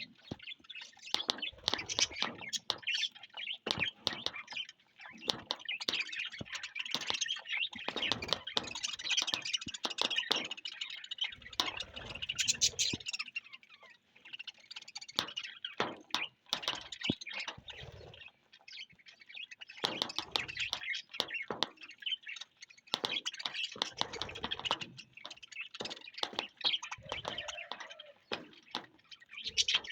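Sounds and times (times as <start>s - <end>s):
budgerigars chattering and chirping: 0.0s - 29.9s.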